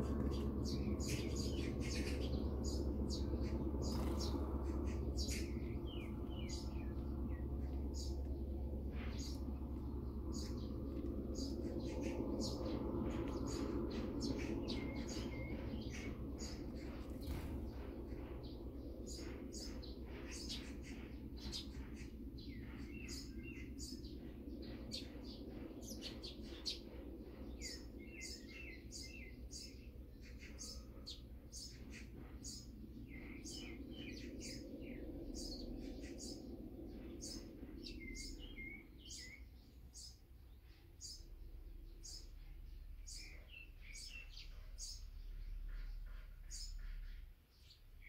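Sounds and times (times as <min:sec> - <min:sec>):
low background hum: 0:00.0 - 0:48.0
small birds chirping: 0:00.0 - 0:48.0.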